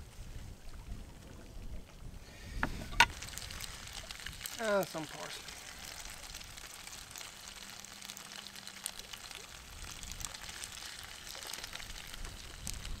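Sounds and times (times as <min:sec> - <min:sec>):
sauce sizzling and bubbling: 0:02.3 - 0:13.0.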